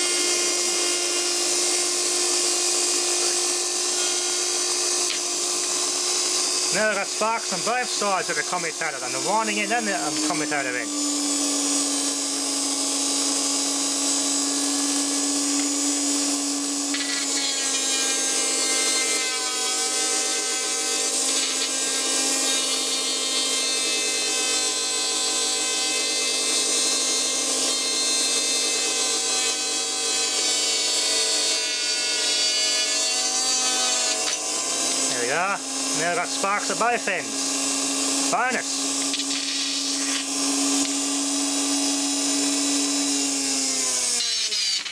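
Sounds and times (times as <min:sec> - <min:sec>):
small motor whining: 0:00.0 - 0:44.9.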